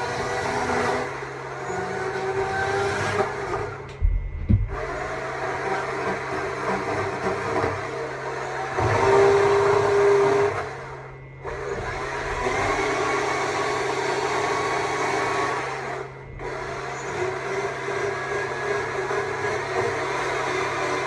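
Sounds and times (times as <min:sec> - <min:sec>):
chainsaw cutting wood: 0:00.0 - 0:10.9, 0:11.5 - 0:21.0.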